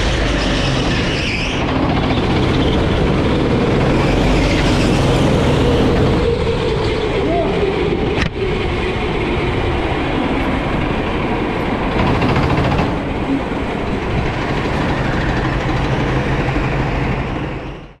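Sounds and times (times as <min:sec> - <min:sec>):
chassis and tyre rumble: 0:00.0 - 0:18.0
kart engine running: 0:00.0 - 0:18.0.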